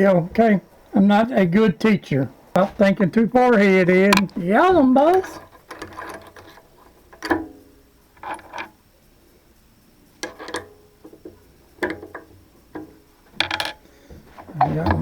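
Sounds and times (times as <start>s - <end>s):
metal tools clinking: 1.5s - 8.8s, 10.2s - 15.0s.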